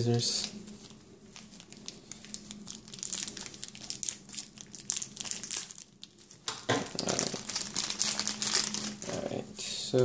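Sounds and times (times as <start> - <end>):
plastic packaging crinkling: 0.3 - 9.4.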